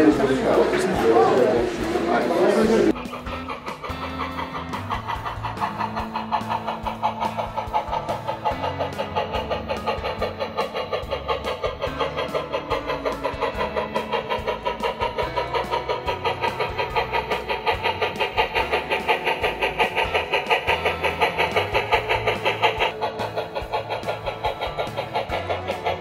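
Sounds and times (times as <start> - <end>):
model train clattering: 0.0 - 26.0.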